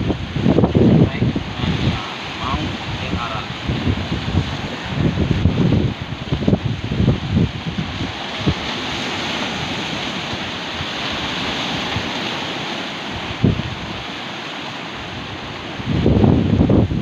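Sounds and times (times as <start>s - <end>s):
heavy surf washing on shore: 0.0s - 17.0s.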